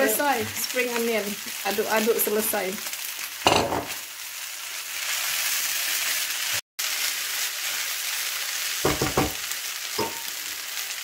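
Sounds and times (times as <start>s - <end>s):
rice sizzling in a pan: 0.0s - 11.0s.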